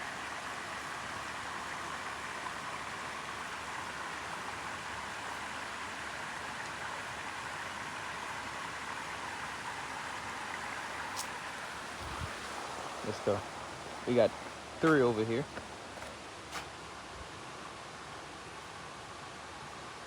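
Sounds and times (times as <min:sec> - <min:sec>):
creek water cascading: 0:00.0 - 0:20.0.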